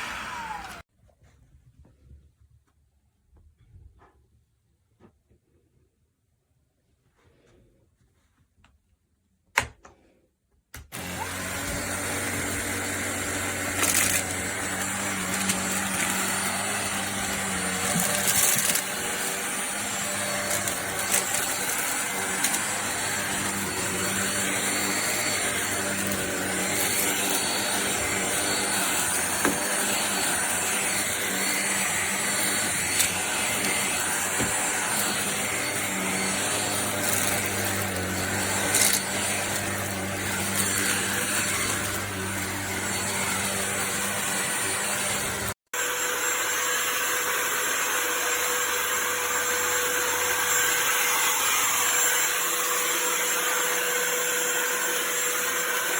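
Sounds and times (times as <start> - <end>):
cordless vacuum running: 0.0 - 0.9, 10.9 - 55.9.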